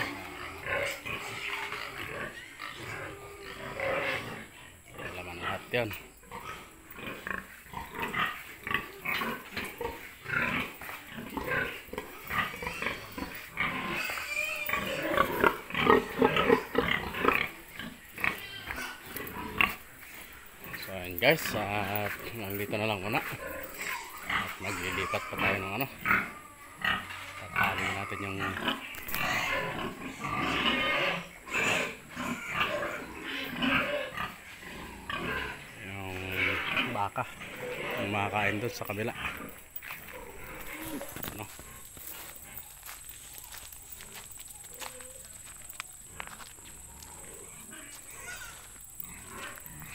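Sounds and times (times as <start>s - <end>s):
pigs grunting and calling: 0.0s - 49.9s.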